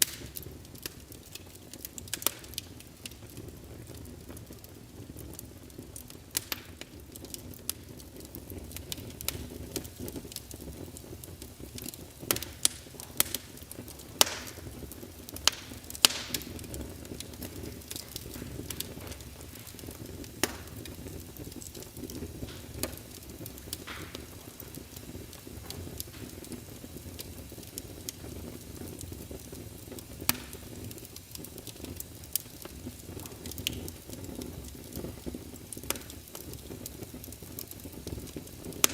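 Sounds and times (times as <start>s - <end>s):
fire pops and snaps: 0.0s - 38.9s
wood fire crackling: 0.0s - 38.9s.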